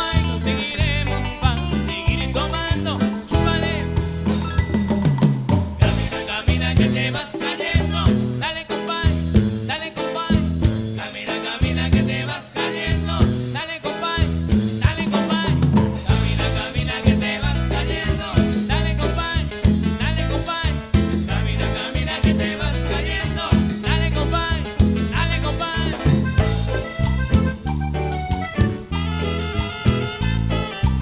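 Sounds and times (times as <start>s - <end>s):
bass line: 0.0s - 11.0s, 11.6s - 31.0s
band playing upbeat song: 0.0s - 31.0s
drum kit beat: 0.0s - 31.0s.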